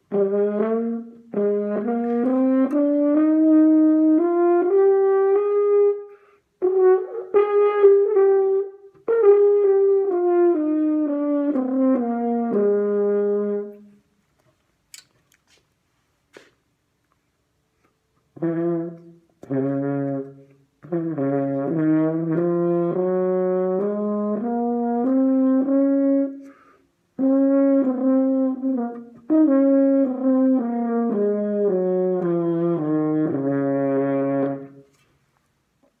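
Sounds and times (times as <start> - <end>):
french horn playing a scale: 0.0 - 14.1, 18.3 - 35.2.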